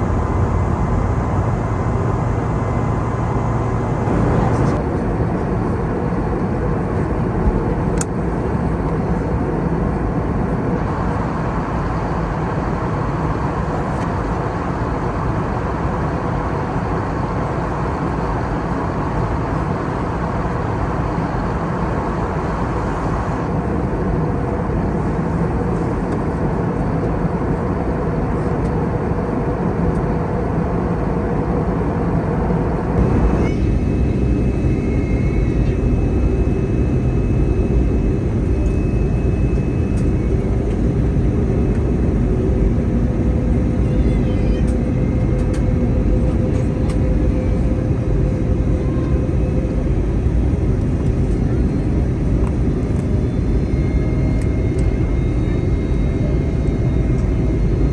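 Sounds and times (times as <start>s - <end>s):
airliner cabin engine rumble: 0.0s - 57.9s.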